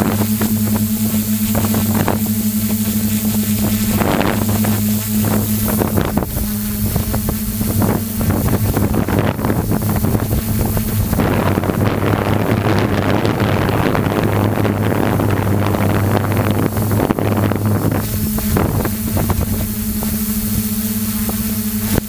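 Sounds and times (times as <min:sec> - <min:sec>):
drone motors humming: 0:00.0 - 0:22.0
wind buffeting microphone: 0:00.0 - 0:22.0.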